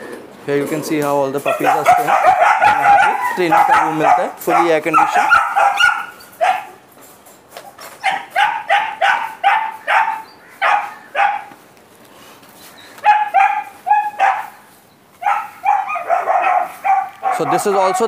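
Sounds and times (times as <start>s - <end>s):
puppies barking: 0.9s - 6.9s, 7.6s - 11.6s, 12.7s - 18.0s.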